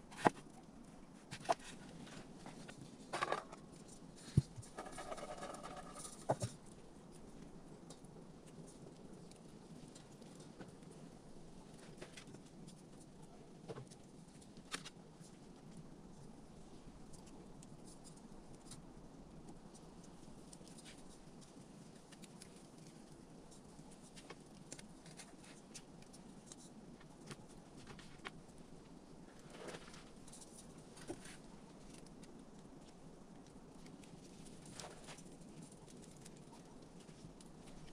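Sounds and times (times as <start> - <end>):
low steady background hiss: 0.0 - 37.9.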